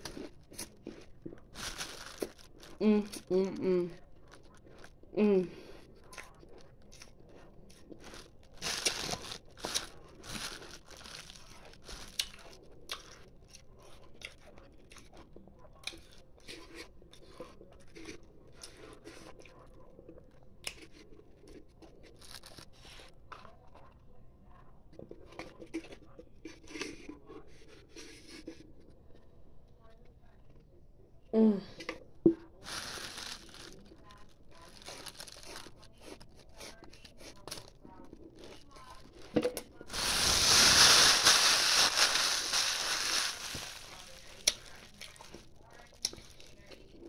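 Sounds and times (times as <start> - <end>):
ice crunching being chewed: 0.0 - 2.8, 4.0 - 24.0, 31.9 - 47.0.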